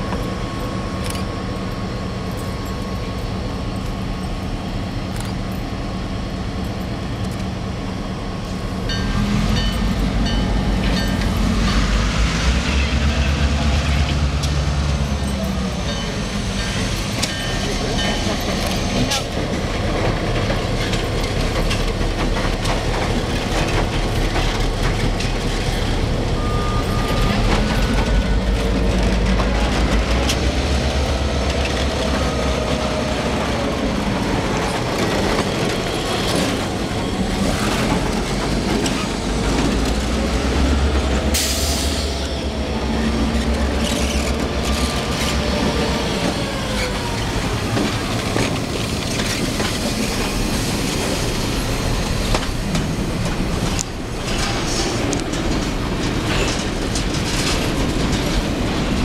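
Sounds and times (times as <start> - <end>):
diesel locomotives rumbling: 0.0 - 59.0.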